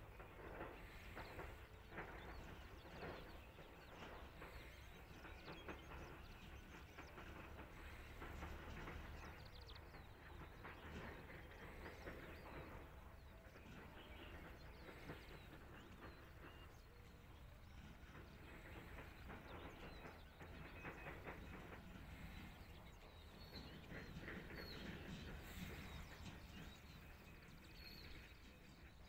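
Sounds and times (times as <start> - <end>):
distant bird chirps: 0.0 - 29.0.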